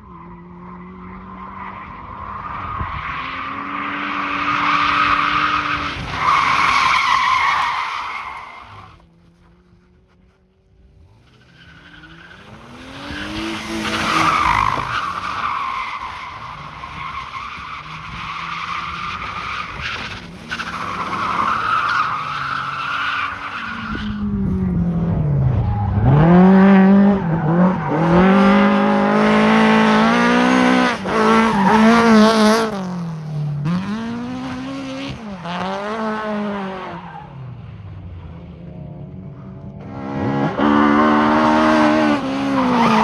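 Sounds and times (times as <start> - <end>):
rally car engine revving: 0.1 - 43.0.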